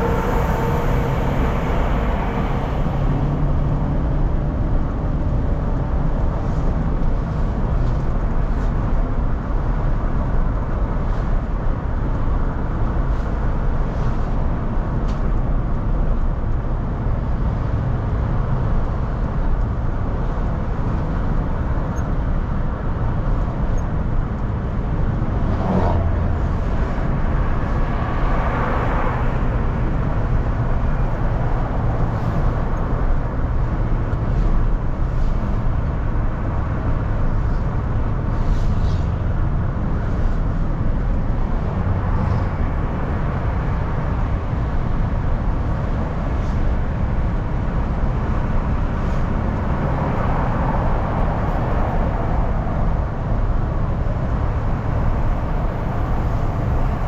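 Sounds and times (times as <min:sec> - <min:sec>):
car cabin road and engine noise: 0:00.0 - 0:57.0.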